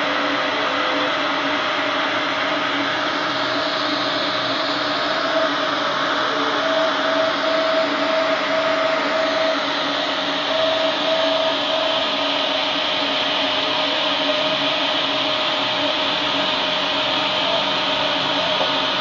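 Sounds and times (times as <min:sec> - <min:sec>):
drive motors whining in pulses: 0:00.0 - 0:19.0.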